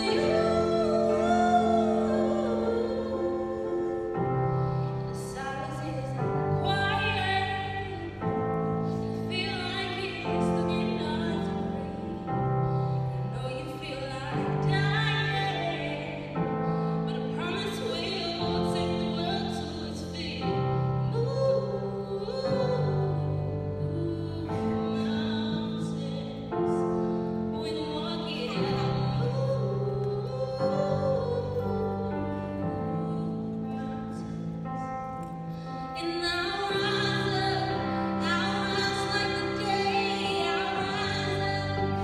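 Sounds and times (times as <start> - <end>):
woman singing into a microphone: 0.0 - 42.0.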